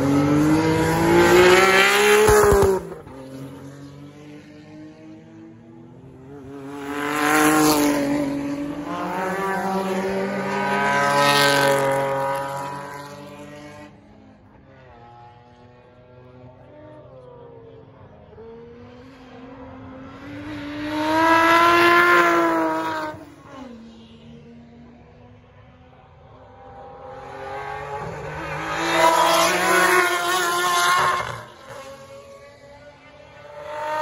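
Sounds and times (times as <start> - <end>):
distant car engines: 0.0 - 34.0
racing cars passing by: 0.0 - 34.0.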